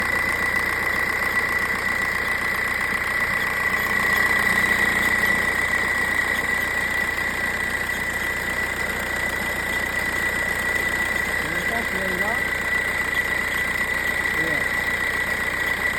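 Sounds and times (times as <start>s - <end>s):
car engine running: 0.0s - 15.9s.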